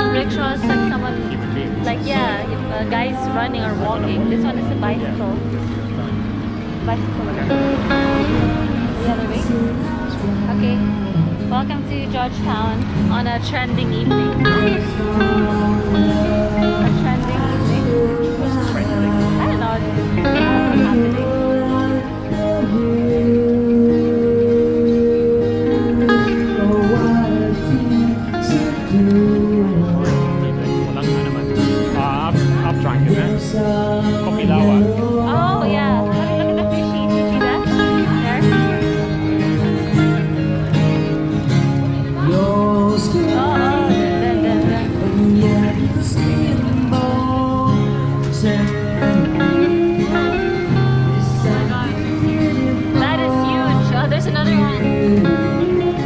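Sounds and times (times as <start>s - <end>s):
guitar playing: 0.0s - 56.0s.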